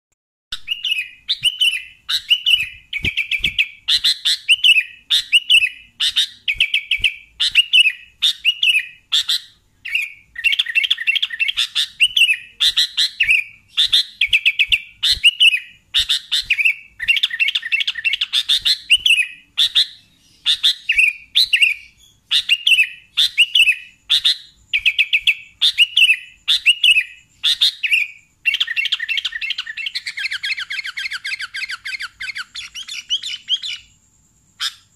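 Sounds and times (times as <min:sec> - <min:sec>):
bulbul singing: 0:00.5 - 0:34.9.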